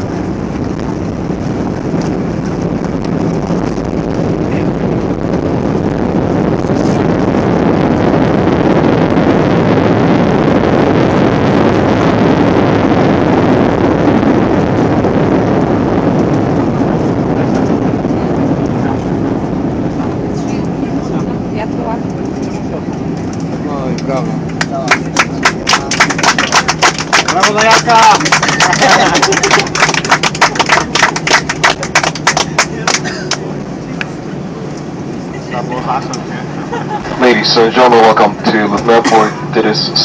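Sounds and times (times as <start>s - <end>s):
jet engines roaring in reverse thrust: 0.0s - 40.0s.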